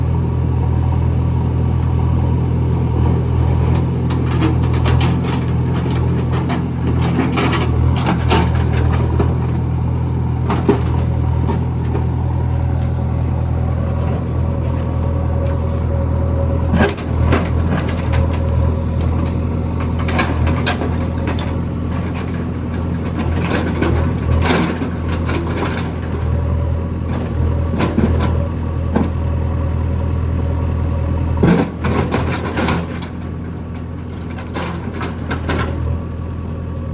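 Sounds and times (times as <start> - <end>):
diesel engine running under load: 0.0 - 36.9.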